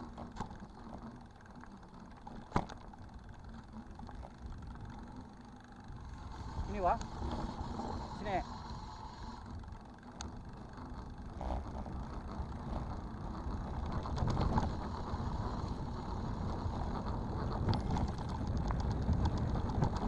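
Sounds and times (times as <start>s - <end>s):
bike clicking and rattling: 0.0s - 20.0s
bike tyres rumbling on dirt: 0.0s - 20.0s.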